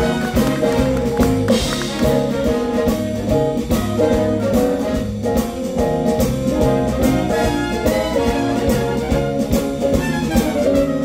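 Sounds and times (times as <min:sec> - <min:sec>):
drum kit beat: 0:00.0 - 0:11.0
live jazz band playing: 0:00.0 - 0:11.0.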